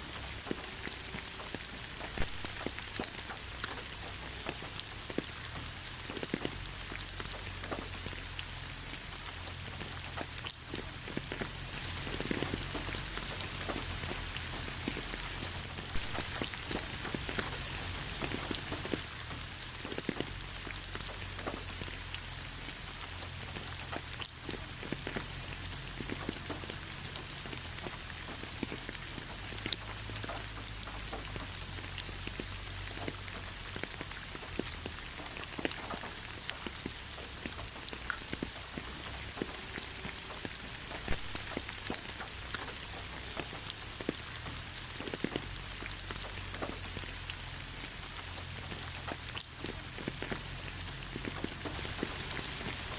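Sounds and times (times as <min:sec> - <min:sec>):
rain hissing: 0:00.0 - 0:52.9
raindrops ticking on a surface: 0:00.0 - 0:52.9.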